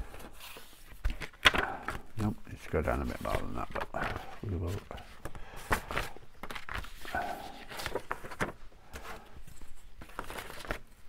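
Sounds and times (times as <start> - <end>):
paper taps and rustles: 0.1 - 9.2, 10.0 - 11.0.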